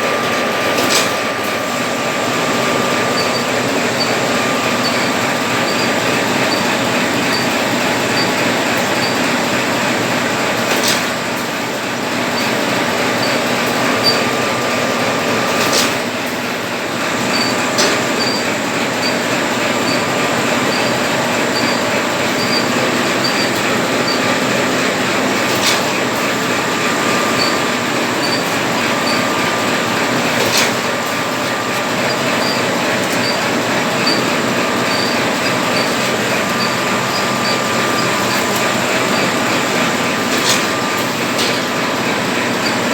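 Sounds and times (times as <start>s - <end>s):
machine mechanical clatter: 0.2s - 42.9s
faint high machine whine: 1.4s - 15.7s, 16.4s - 42.9s.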